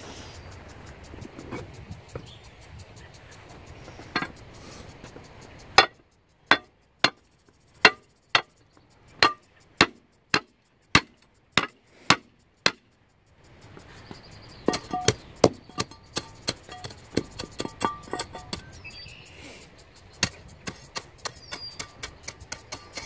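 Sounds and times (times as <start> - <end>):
light ringing clinks: 0.6 - 23.0.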